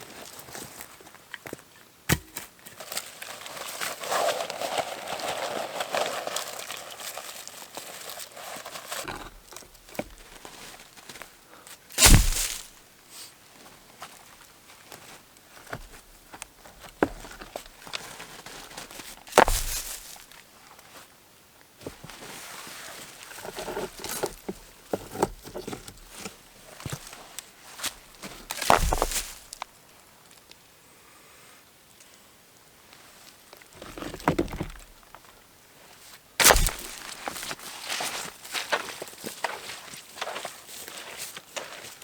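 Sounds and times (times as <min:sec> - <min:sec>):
rustling and crunching handling noise: 0:00.1 - 0:21.1, 0:21.8 - 0:29.7, 0:33.2 - 0:42.0.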